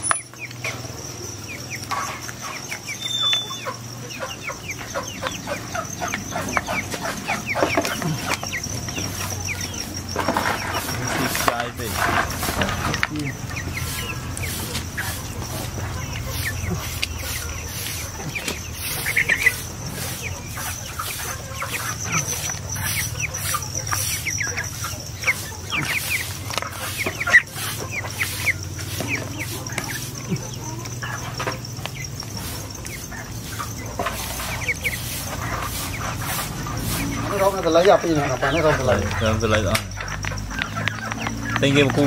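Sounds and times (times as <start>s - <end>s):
chickens clucking and chirping: 0.0s - 42.0s.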